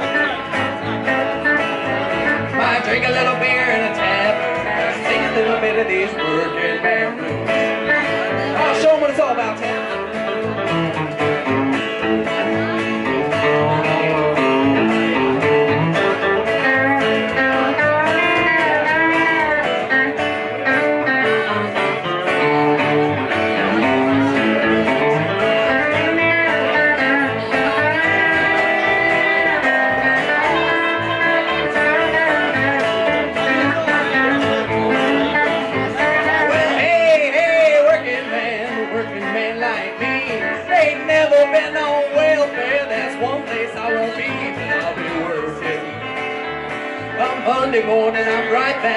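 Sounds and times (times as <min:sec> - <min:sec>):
acoustic guitar: 0:00.0 - 0:48.9
electric guitar bending notes: 0:00.0 - 0:48.9
upright double bass: 0:00.0 - 0:48.9.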